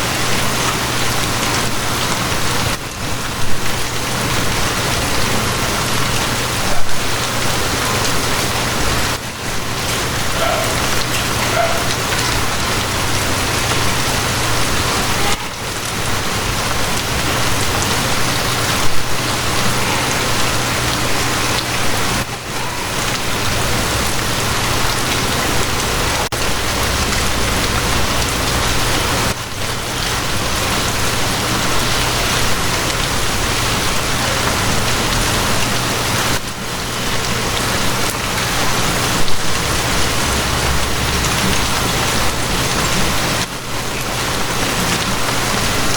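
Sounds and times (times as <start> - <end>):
rain pattering on a surface: 0.0 - 45.9.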